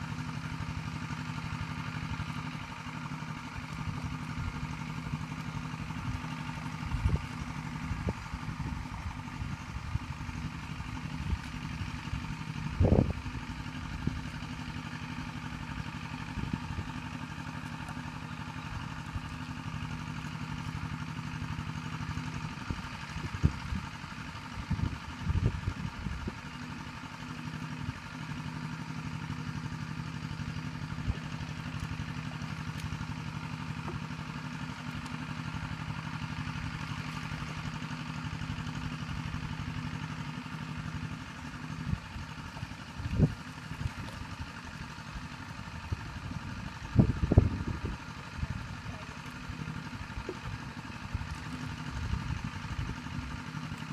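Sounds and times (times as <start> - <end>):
small engine idling: 0.0 - 53.9.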